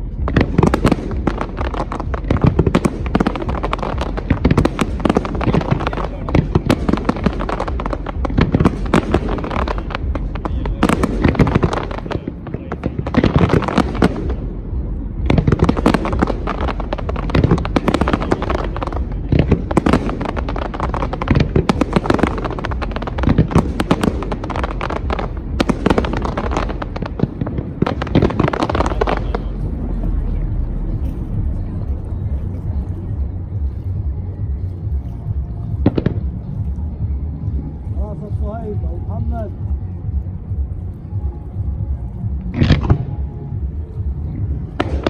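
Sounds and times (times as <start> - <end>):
fireworks bursting and crackling: 0.0 - 45.0.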